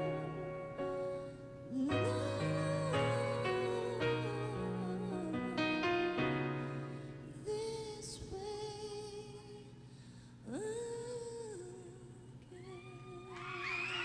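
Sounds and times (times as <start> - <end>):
woman singing a ballad: 0.0 - 14.0.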